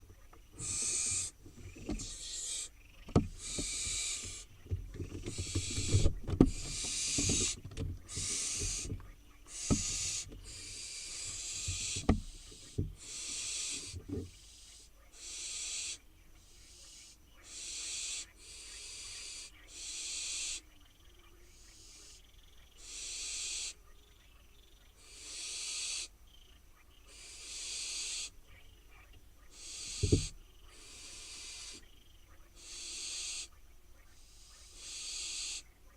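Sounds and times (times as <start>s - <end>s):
owl fledglings hissing calls: 0.2s - 35.9s.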